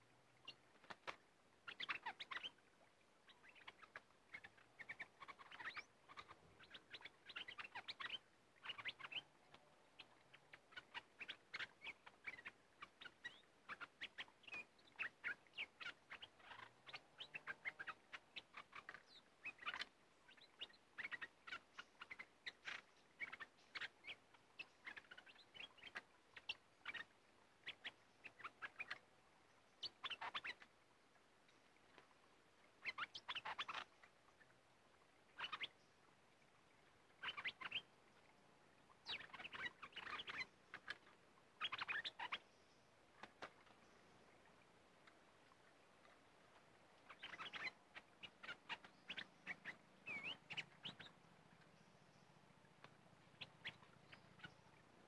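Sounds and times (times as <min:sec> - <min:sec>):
bulbuls chirping: 0:00.0 - 0:29.1, 0:29.7 - 0:30.7, 0:37.1 - 0:38.0, 0:38.8 - 0:55.0.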